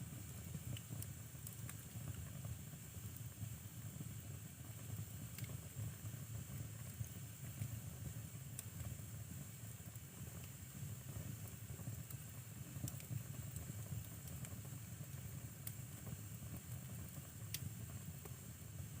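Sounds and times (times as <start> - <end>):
burning logs crackling and popping: 0.0 - 19.0
low rumble of flames: 0.0 - 19.0.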